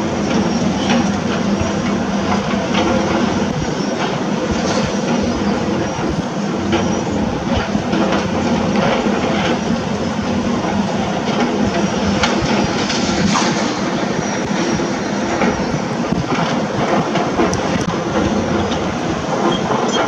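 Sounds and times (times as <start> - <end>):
diesel engine under load: 0.0 - 20.0.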